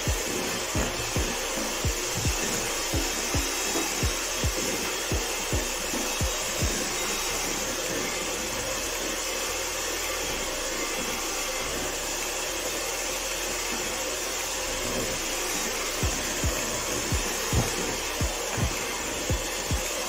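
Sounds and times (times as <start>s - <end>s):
electric hand mixer whirring: 0.0s - 20.0s.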